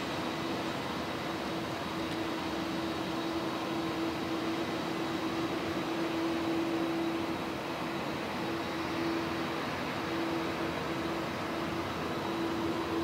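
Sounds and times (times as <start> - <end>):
jet engines at taxi thrust: 0.0 - 13.0.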